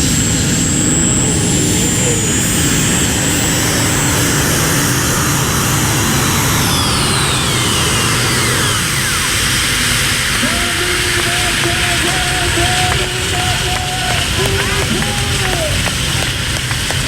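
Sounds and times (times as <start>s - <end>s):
high whine falling in pitch: 0.0s - 17.0s
tractor engine at full load: 0.0s - 17.0s.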